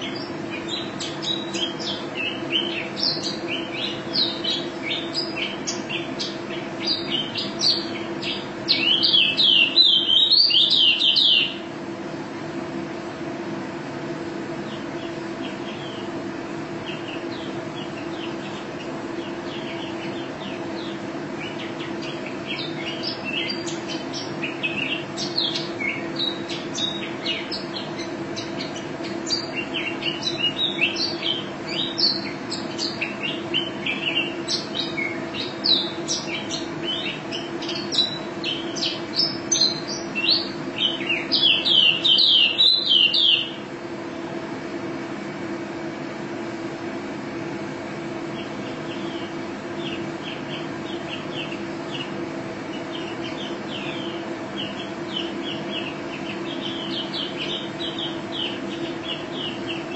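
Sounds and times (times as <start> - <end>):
bird singing high chirps and trills: 0.0 - 11.7, 14.6 - 44.4, 48.2 - 59.9
steady low hum: 0.0 - 59.9.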